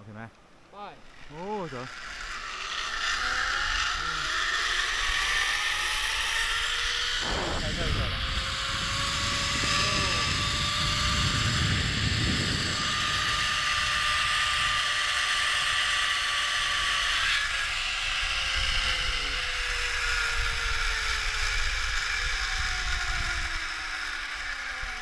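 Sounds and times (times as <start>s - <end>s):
low wind rumble: 0.0s - 25.0s
zipline pulleys whirring on cable: 0.7s - 25.0s.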